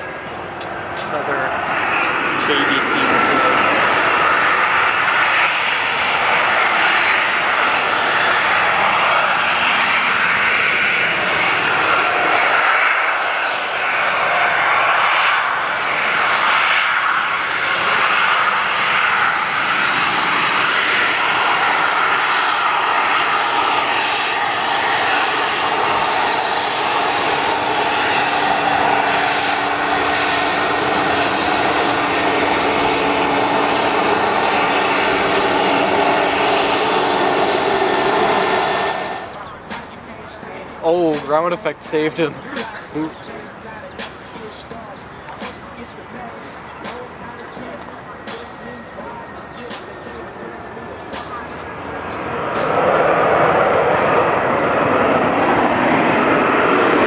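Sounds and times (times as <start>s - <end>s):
jet engines whining at taxi power: 0.0s - 57.0s.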